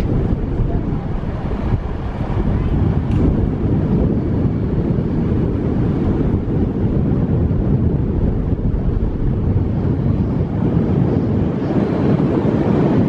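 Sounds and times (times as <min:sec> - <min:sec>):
car road noise: 0:00.0 - 0:11.2
wind buffeting microphone: 0:00.0 - 0:13.0.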